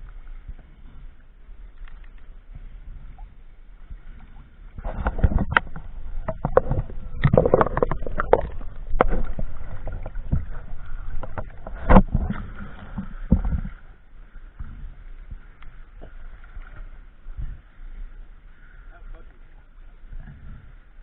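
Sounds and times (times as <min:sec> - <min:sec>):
water splashing around boat: 0:00.0 - 0:21.0.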